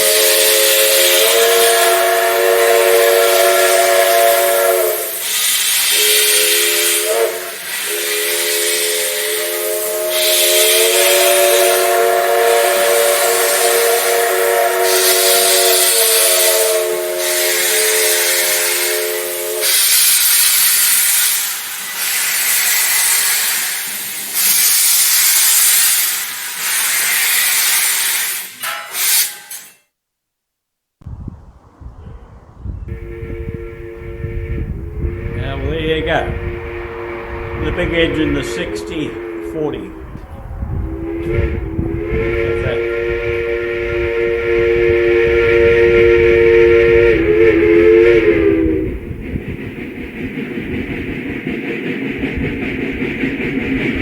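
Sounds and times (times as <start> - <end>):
steam hissing: 0.0 - 29.6, 32.9 - 54.0
steam locomotive chime whistle: 0.0 - 29.6, 32.9 - 49.0.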